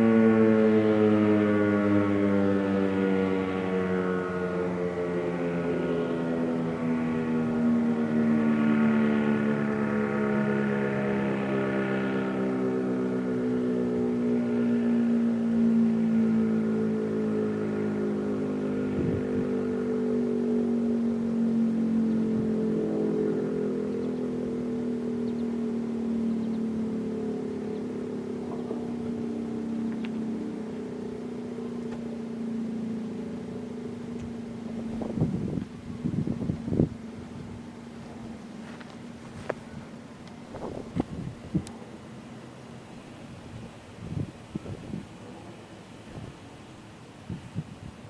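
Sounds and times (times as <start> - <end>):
mechanical siren winding down: 0.0 - 46.4.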